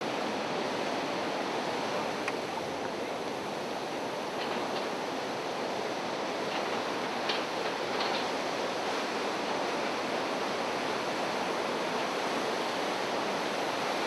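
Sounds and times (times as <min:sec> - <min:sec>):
sea surf rushing: 0:00.0 - 0:14.0.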